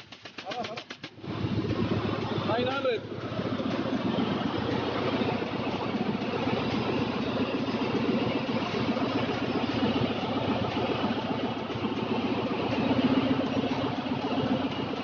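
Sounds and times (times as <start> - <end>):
engine room machinery drone: 0.0 - 15.0.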